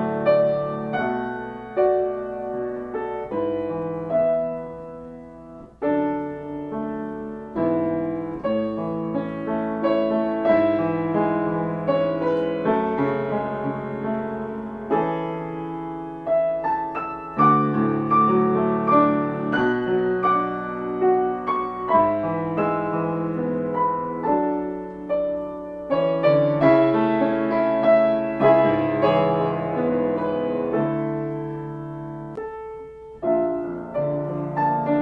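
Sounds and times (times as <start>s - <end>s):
slow quiet piano prelude: 0.0s - 35.0s.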